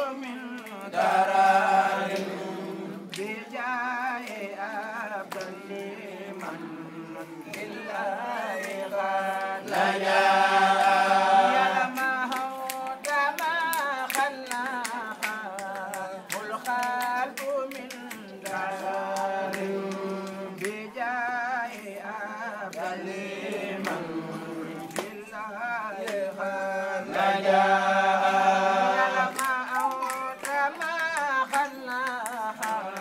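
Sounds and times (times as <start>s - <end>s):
men singing a religious chant: 0.0s - 33.0s.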